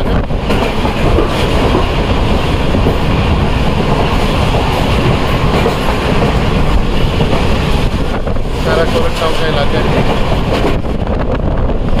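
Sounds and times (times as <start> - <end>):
train wheels rumbling and clattering: 0.0 - 12.0.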